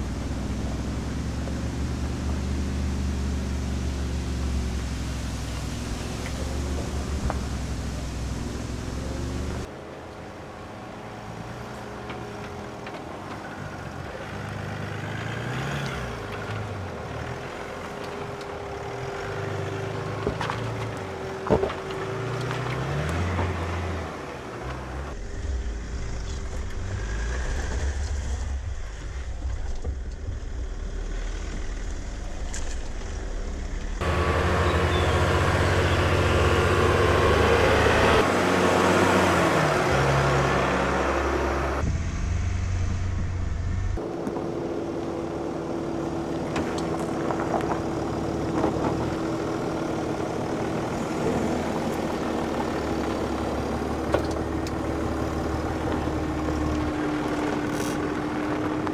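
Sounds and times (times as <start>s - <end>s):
suv engine running at low revs: 0.0s - 58.9s.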